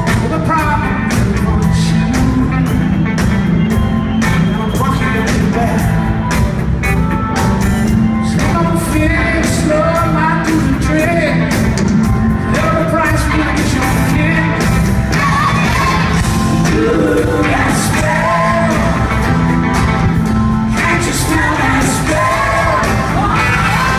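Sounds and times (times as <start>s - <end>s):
lead voice singing: 0.0s - 6.5s, 8.1s - 23.9s
live rock band playing: 0.0s - 23.9s.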